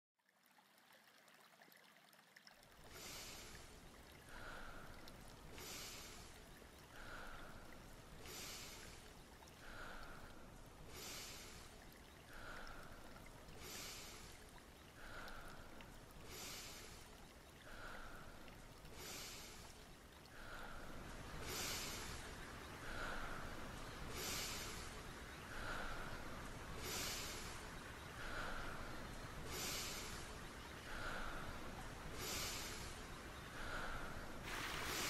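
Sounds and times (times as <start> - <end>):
slow regular breathing: 2.6 - 35.0.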